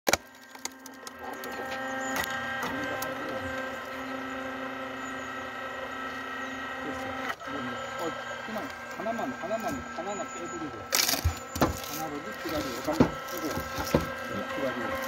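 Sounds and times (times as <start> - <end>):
log splitter motor humming: 0.1 - 15.0.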